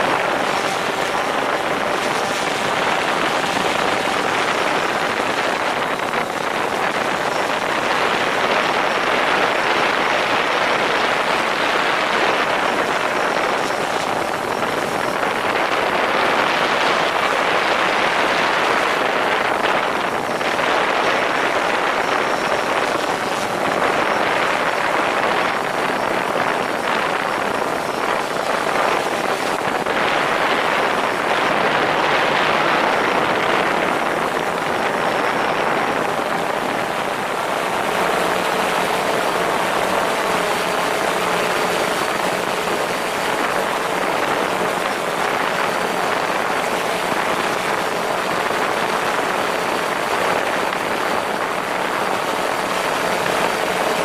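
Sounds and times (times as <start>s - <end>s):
drone propellers rushing: 0.0s - 54.0s.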